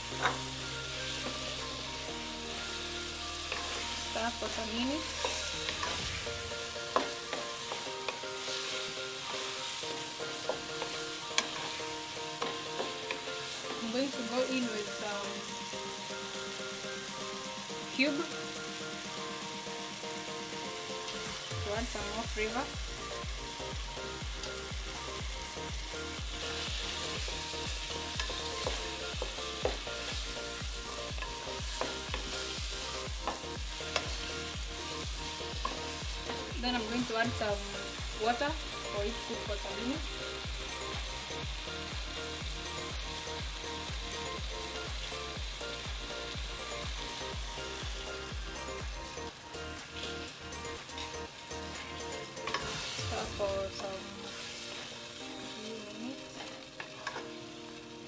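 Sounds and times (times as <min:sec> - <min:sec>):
chicken sizzling in a pot: 0:00.0 - 0:58.0.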